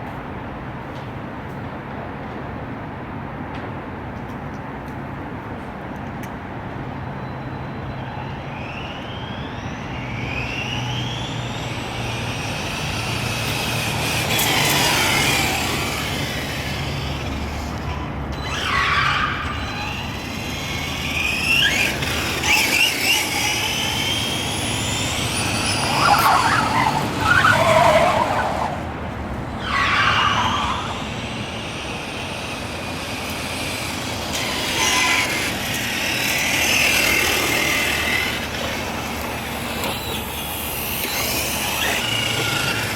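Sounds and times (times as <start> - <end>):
electric motor whining: 7.7 - 42.9.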